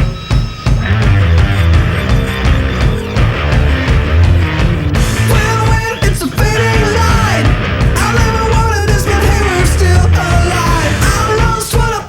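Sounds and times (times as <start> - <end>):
punk rock music: 0.0 - 12.0.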